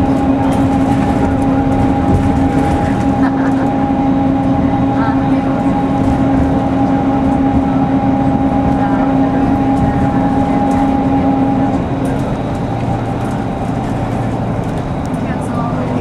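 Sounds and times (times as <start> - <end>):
bus interior rumble: 0.0 - 16.0.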